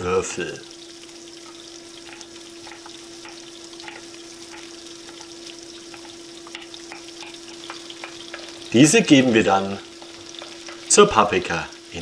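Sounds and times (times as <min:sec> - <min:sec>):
peppers sizzling in hot oil: 0:00.0 - 0:12.0.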